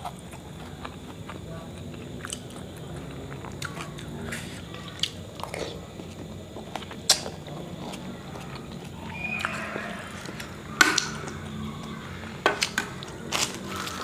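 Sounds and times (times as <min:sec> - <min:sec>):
slurping and chewing noodles: 0:00.0 - 0:14.0.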